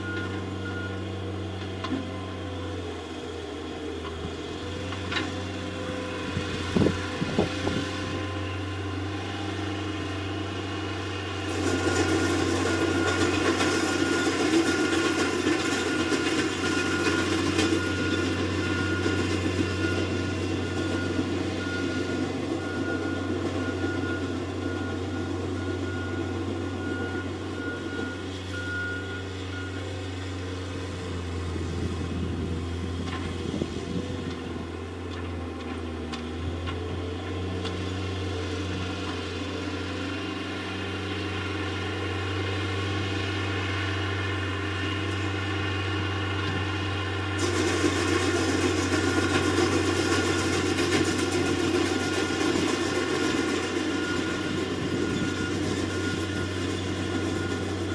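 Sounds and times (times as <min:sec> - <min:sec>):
heavy machine engine running: 0:00.0 - 0:57.9.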